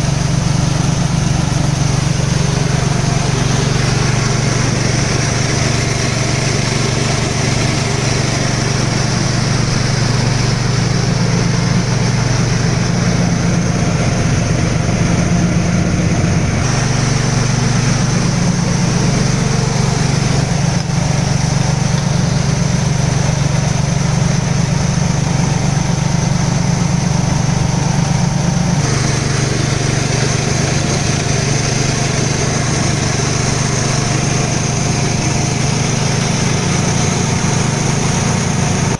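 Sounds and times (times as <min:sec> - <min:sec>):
mill mechanical noise: 0:00.0 - 0:38.9
small engine humming: 0:00.0 - 0:38.9.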